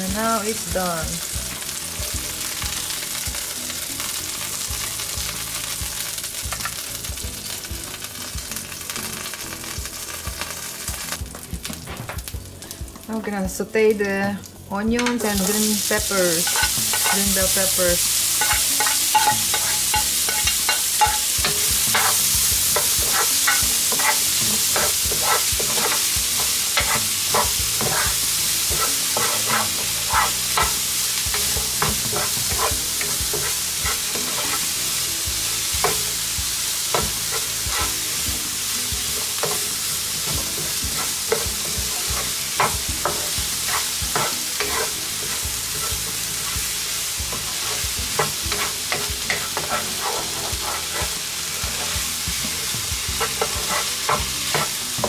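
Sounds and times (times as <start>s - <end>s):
vegetables sizzling in a frying pan: 0.0s - 55.0s.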